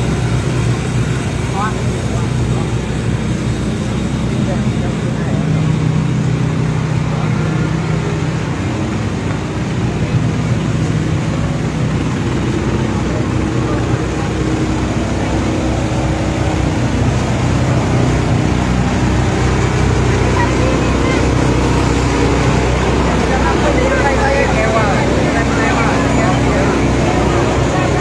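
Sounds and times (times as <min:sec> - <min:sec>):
crowd voices: 0:00.0 - 0:28.0
engine droning: 0:00.0 - 0:28.0.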